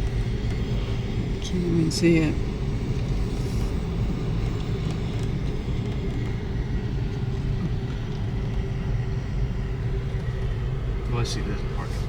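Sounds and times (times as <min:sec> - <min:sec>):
car engine and tyres rumbling: 0:00.0 - 0:12.0
faint steady hum: 0:00.0 - 0:12.0.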